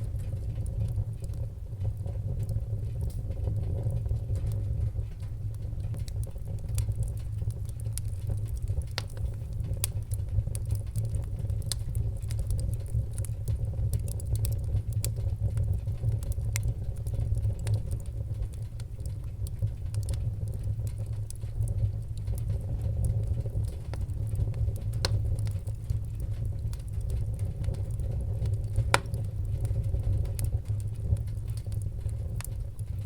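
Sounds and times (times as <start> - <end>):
fire low rumble: 0.0 - 33.0
fire pops and snaps: 0.0 - 33.0.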